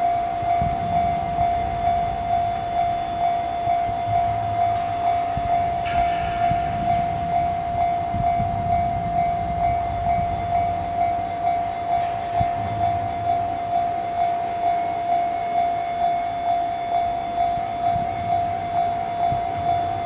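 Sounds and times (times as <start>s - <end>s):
freight train rumbling past: 0.0s - 20.0s
level crossing warning bell: 0.0s - 20.0s.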